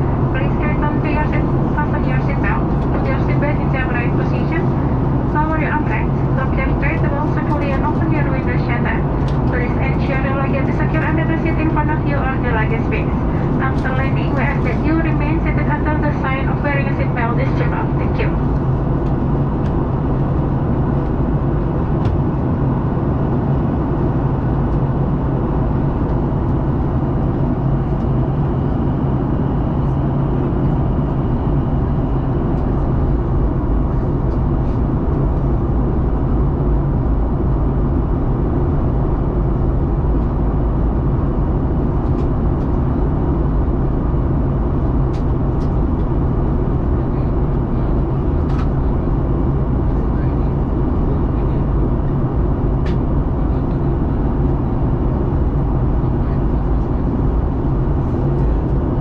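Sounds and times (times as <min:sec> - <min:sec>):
jet engine drone: 0:00.0 - 0:59.0
low hum: 0:00.0 - 0:59.0.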